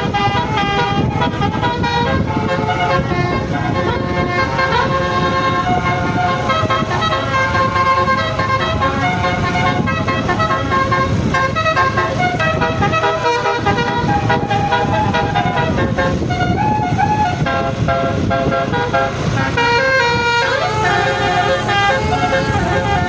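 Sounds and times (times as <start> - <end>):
air horn trumpets playing tune: 0.0 - 23.0.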